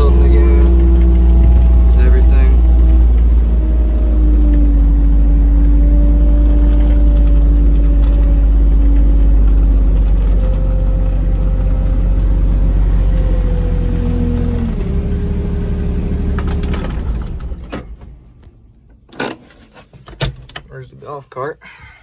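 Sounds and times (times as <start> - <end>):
vehicle engine and road rumble: 0.0 - 21.4.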